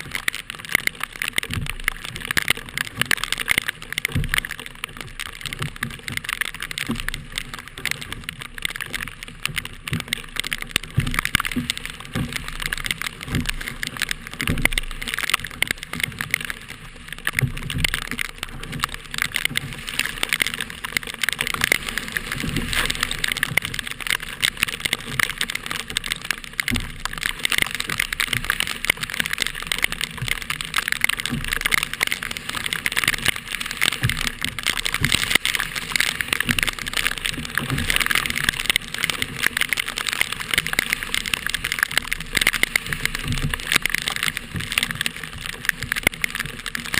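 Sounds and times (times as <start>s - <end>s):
crackling hiss of wind and water: 0.0s - 46.9s.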